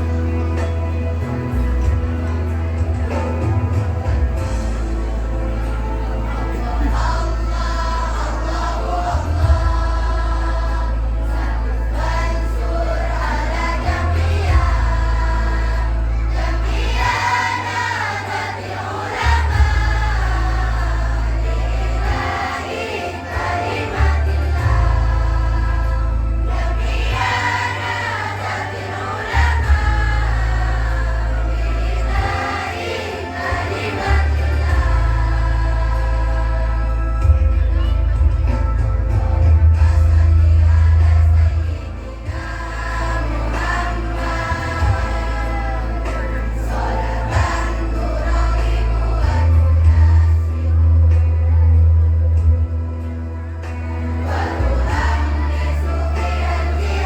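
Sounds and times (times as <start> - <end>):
choir singing devotional song: 0.0 - 57.0
deep bass accompaniment: 0.0 - 57.0.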